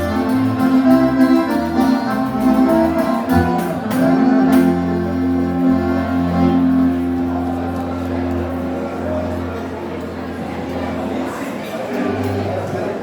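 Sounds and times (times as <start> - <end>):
guitar playing held chords: 0.0 - 12.9
accordion: 0.0 - 13.0.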